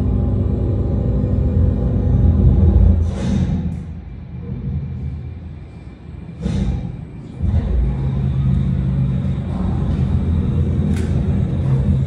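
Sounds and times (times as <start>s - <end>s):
mechanical platform rumble and hum: 0.0s - 12.0s.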